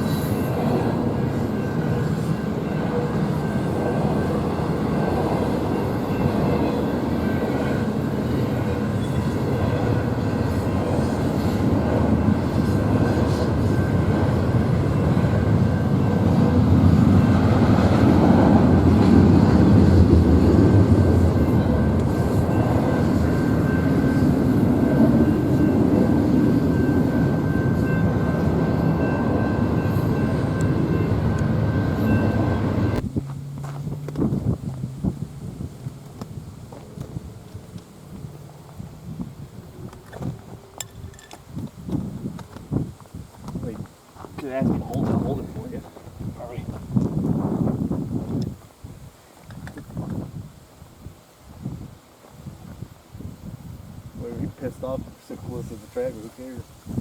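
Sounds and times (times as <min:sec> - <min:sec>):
freight train rumbling past: 0:00.0 - 0:49.3, 0:50.0 - 0:57.0.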